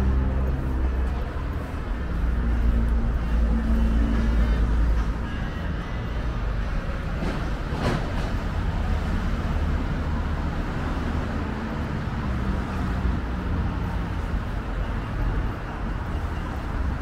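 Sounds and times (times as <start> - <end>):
cars passing rumble: 0.0 - 17.0.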